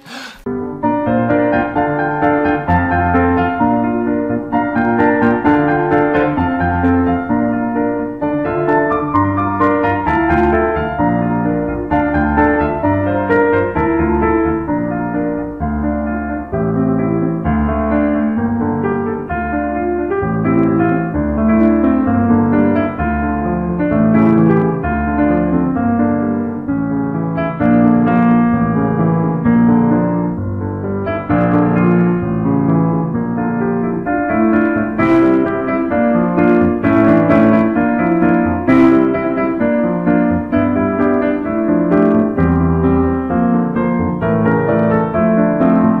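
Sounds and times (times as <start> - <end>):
piano outro music: 0.0 - 46.0.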